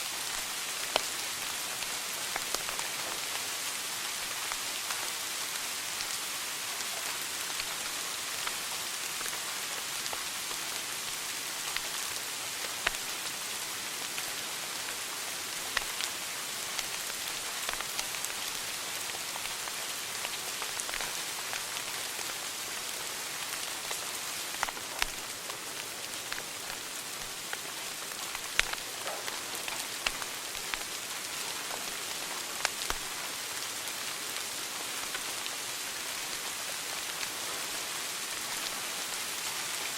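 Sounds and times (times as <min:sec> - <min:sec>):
wood fire crackling and popping: 0:00.2 - 0:03.5, 0:04.2 - 0:35.3.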